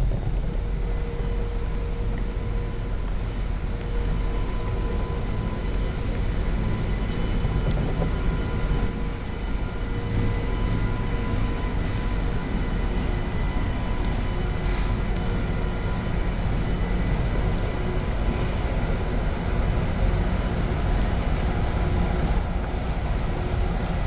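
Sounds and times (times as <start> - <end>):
rail equipment rumbling: 0.0 - 24.0.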